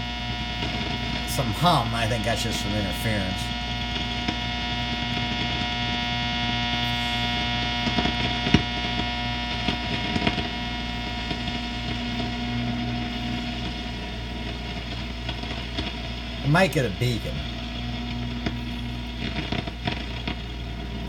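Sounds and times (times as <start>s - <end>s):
radio crackles: 0.0s - 21.0s
radio hum: 0.0s - 21.0s.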